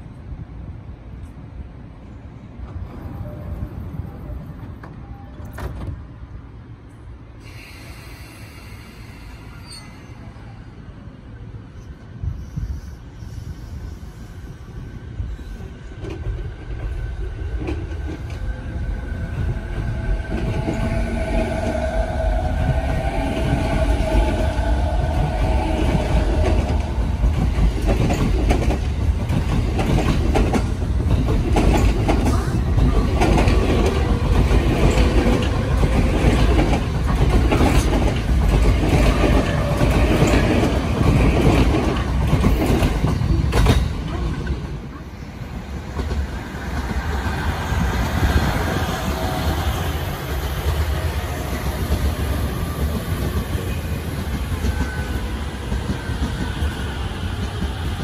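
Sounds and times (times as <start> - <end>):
distant train on farther track: 0.0 - 58.0
electric train rumbling past: 0.0 - 58.0.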